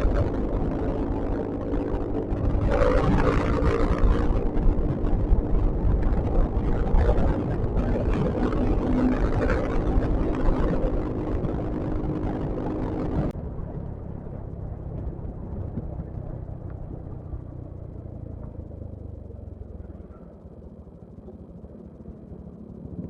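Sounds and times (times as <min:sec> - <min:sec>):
wind rushing over microphone: 0:00.0 - 0:19.5
dull low rumble: 0:00.0 - 0:23.0
scooter engine droning: 0:00.0 - 0:23.0.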